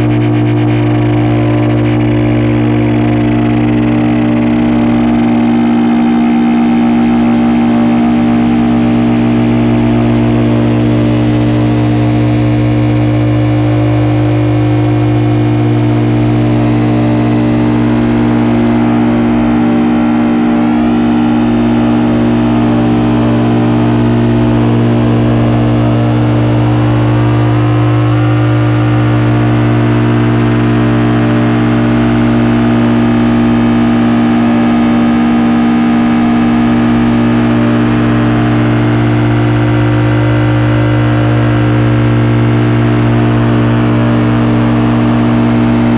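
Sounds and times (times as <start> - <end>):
electronic oscillator tones: 0.0 - 45.9
heavy low hum: 0.0 - 45.9.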